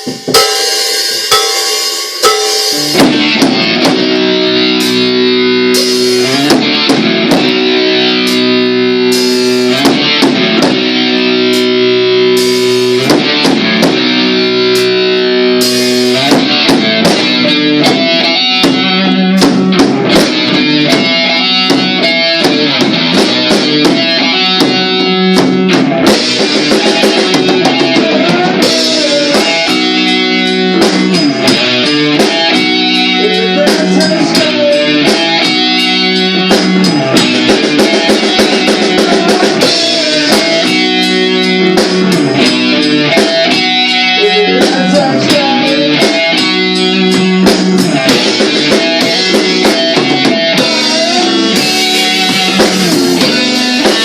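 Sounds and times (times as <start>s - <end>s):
drum kit: 0.0s - 54.0s
electric guitar riff: 0.0s - 54.0s.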